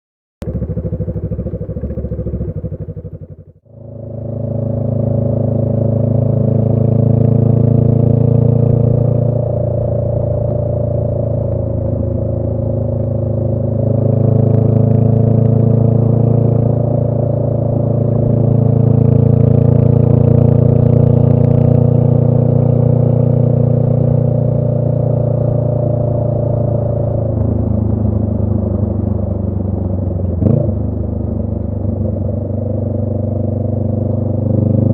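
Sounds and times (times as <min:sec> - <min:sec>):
motorcycle engine cruising: 0:00.4 - 0:34.9.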